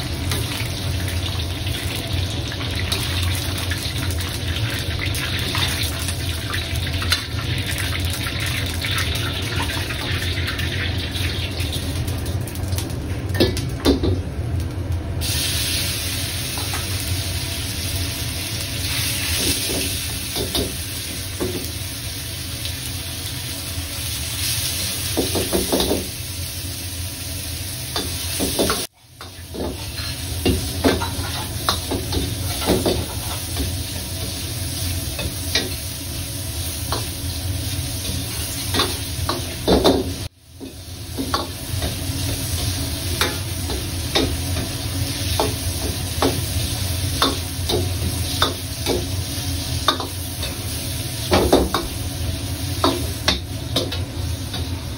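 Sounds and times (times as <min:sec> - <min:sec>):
meat sizzling in hot oil: 0:00.0 - 0:54.9.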